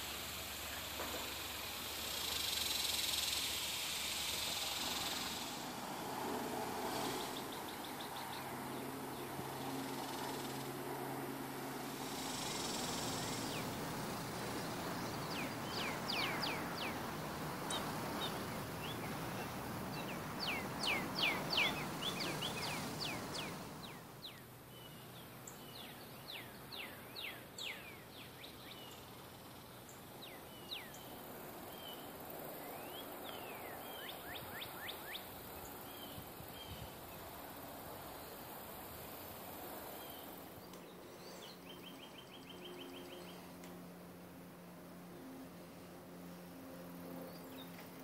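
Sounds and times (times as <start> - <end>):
songbirds singing: 4.3 - 43.9, 47.1 - 47.9.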